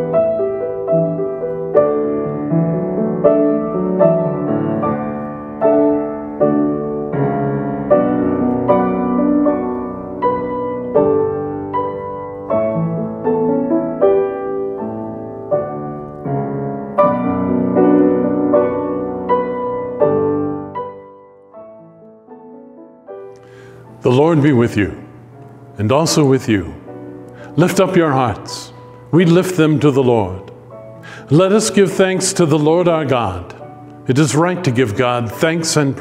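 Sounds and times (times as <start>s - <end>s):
slow piano music: 0.0s - 36.0s.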